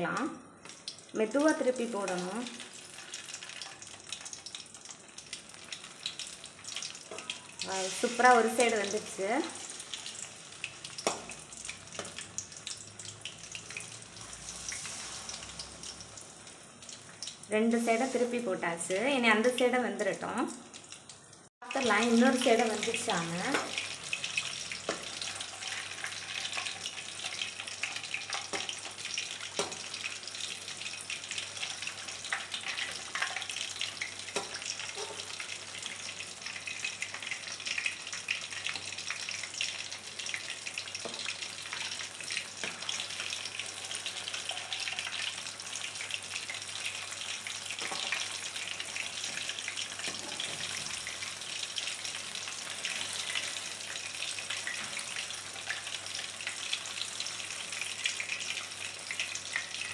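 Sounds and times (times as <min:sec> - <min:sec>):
batter deep-frying in oil: 0:00.0 - 0:59.9.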